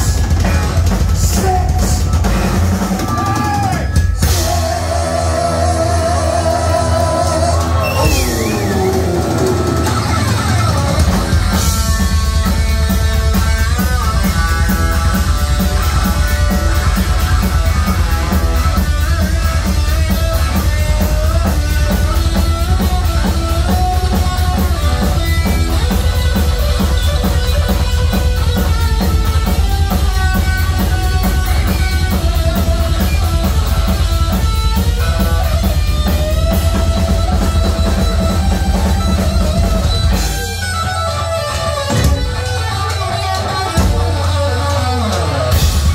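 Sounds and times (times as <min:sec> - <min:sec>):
bass guitar: 0:00.0 - 0:45.9
electric guitar lead: 0:00.0 - 0:45.9
fast drum beat: 0:00.0 - 0:45.9.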